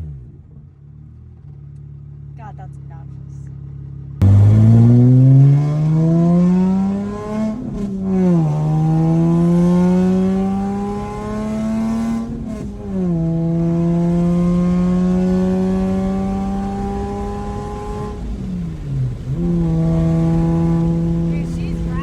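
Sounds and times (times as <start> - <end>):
car engine accelerating hard: 3.8 - 22.0.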